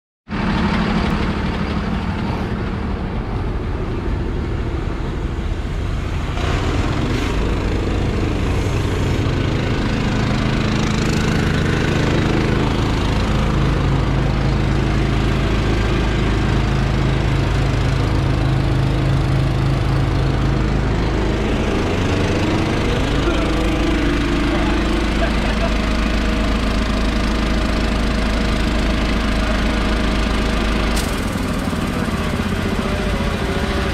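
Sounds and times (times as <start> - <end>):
truck engine running: 0.3 - 33.9.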